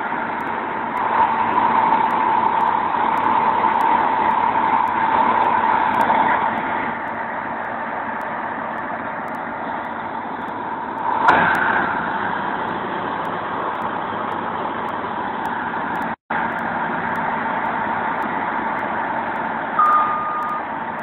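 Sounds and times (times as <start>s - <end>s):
heavy farm vehicle engine running: 0.0s - 21.0s.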